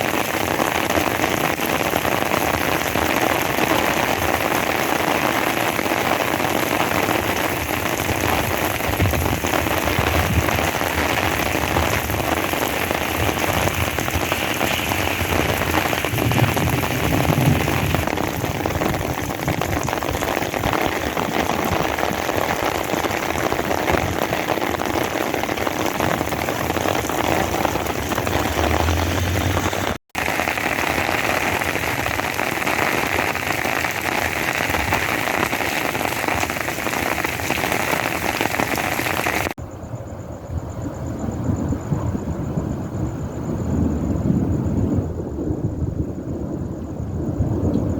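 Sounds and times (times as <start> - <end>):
steady rain falling: 0.0 - 39.6.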